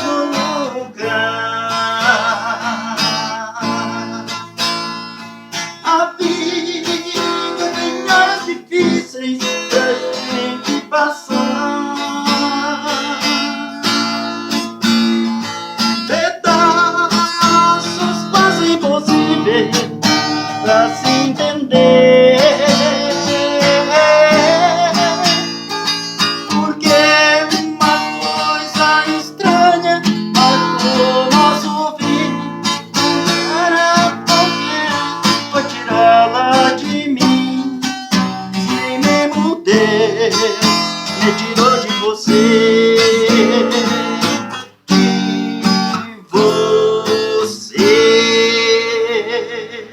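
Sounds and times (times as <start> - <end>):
acoustic guitar ballad: 0.0 - 49.9.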